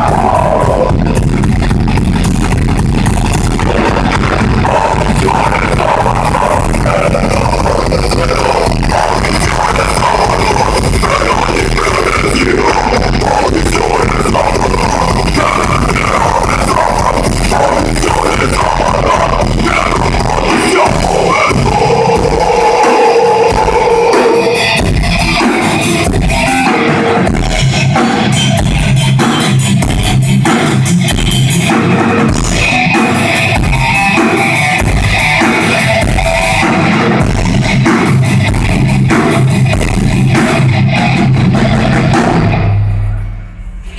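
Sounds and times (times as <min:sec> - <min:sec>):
heavy metal band playing: 0:00.0 - 0:43.9.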